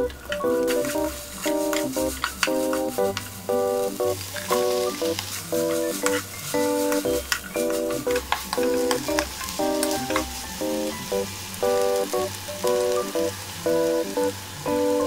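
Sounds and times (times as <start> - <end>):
wooden spoon stirring: 0.0 - 14.0
light background music: 0.0 - 15.0
vegetables sizzling in a pan: 0.0 - 15.0.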